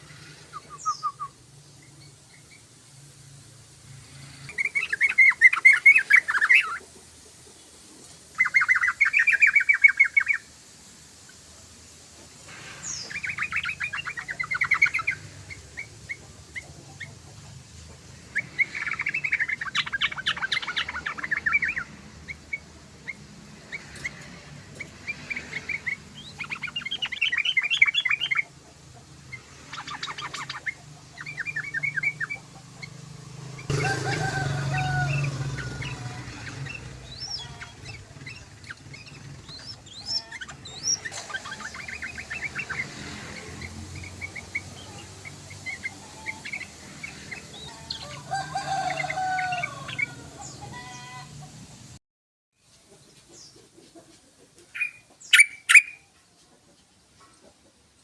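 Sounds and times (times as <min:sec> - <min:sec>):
bulbul chattering song: 0:00.0 - 0:51.5, 0:54.6 - 0:56.1.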